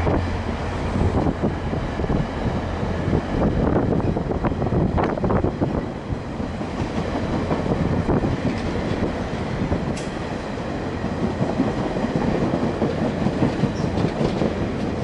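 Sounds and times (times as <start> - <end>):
train wheels clattering on rails: 2.8 - 15.0.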